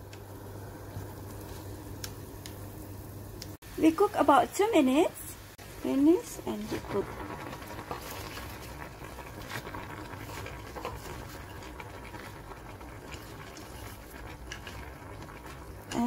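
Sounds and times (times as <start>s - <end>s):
water boiling in saucepan: 0.0s - 16.0s.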